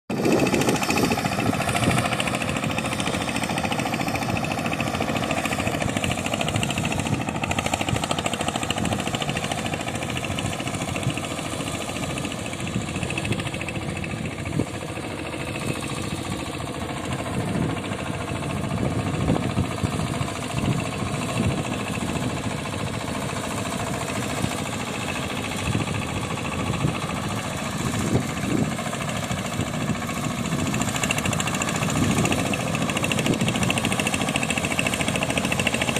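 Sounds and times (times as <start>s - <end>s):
tractor engine running: 0.1s - 35.9s.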